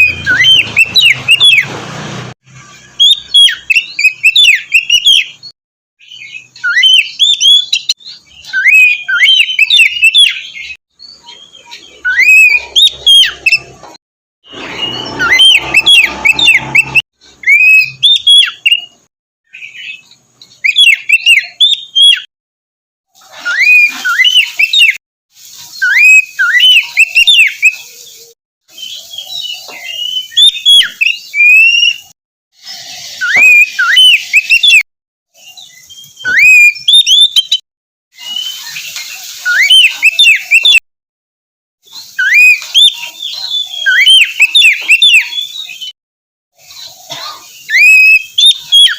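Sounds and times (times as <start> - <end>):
bird singing whistled phrases: 0.0 - 1.6, 2.9 - 13.8, 14.5 - 22.3, 23.4 - 25.0, 25.7 - 37.6, 38.2 - 40.8, 41.9 - 46.0, 47.3 - 48.9.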